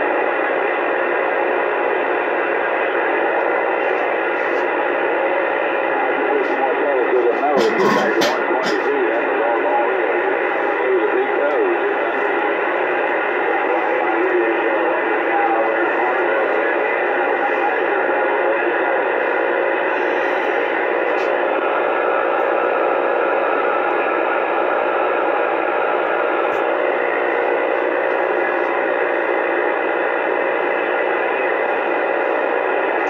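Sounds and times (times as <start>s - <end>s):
faint steady tones: 0.0s - 33.0s
radio static hiss: 0.0s - 33.0s.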